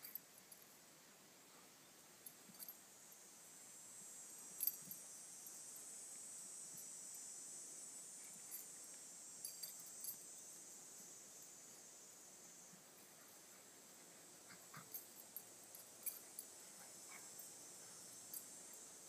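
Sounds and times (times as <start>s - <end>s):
high-pitched insect chorus: 2.5s - 19.0s.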